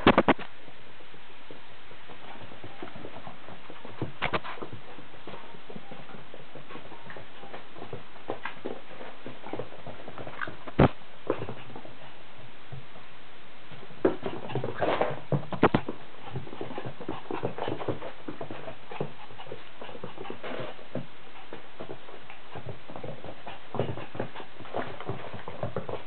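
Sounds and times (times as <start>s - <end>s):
dog playing with toys on carpet: 1.4s - 13.1s, 13.7s - 26.0s.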